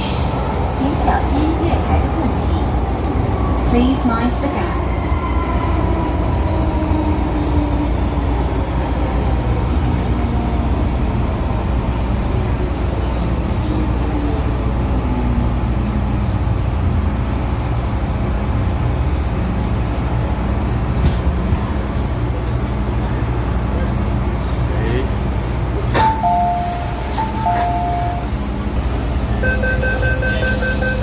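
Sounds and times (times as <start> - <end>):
train car interior rumble: 0.0 - 31.0.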